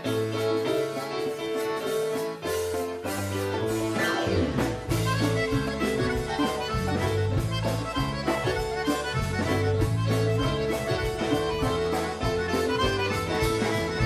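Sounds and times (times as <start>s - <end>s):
accordion held notes: 0.0s - 14.0s
folk instrumental ensemble: 0.0s - 14.0s.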